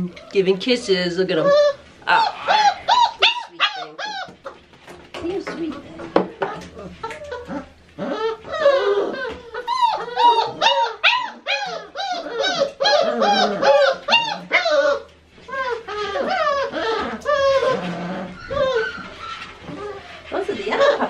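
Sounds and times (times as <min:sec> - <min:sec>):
puppies whining and crying: 0:01.3 - 0:04.7, 0:06.2 - 0:21.0.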